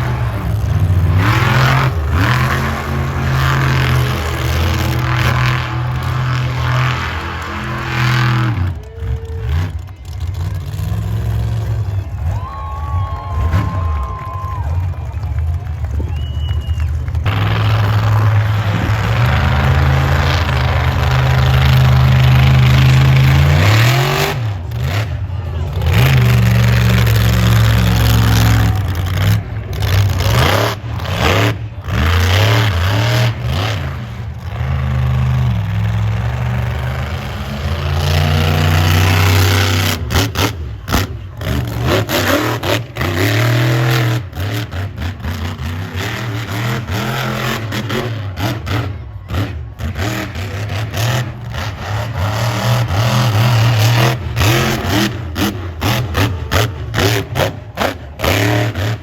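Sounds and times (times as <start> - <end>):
truck engine revving: 0.0 - 12.5, 13.3 - 59.0.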